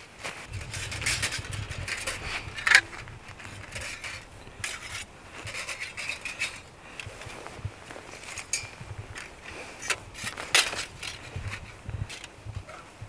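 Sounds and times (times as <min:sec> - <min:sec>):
metal plates clinking and scraping: 0:00.4 - 0:07.4, 0:08.1 - 0:12.3.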